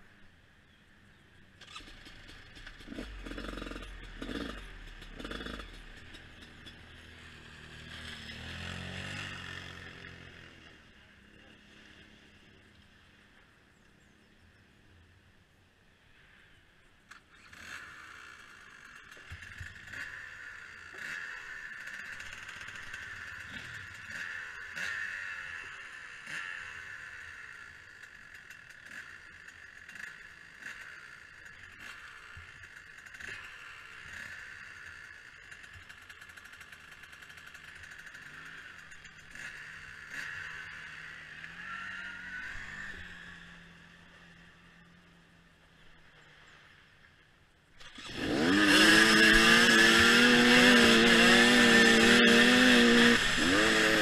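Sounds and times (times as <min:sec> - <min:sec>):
dirt bike engines idling: 0:00.0 - 0:54.0
engine revving: 0:01.6 - 0:12.6, 0:17.1 - 0:45.1, 0:47.8 - 0:54.0.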